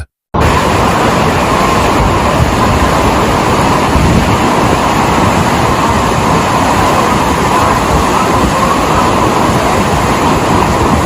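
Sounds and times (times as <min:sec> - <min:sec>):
floodwater rushing: 0:00.4 - 0:11.0.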